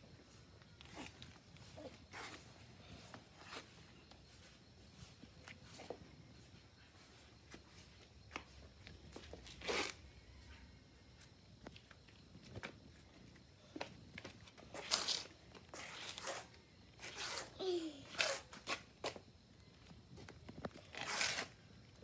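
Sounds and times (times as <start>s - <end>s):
child's shoes scuffing on concrete: 0.1s - 21.7s.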